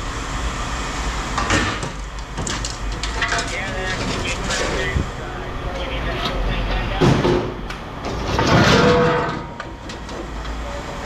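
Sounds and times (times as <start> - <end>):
low rumble of machinery: 0.0 - 11.0.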